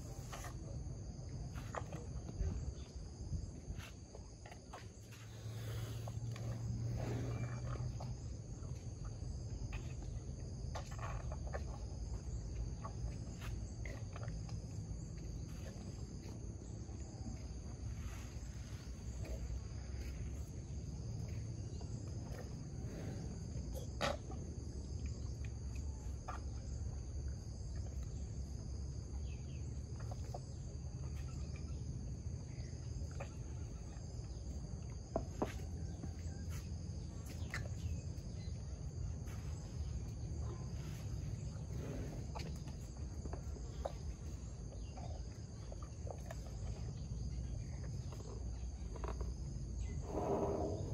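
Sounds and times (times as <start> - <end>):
insects trilling: 0.0 - 50.9
low rumbling background: 0.0 - 50.9.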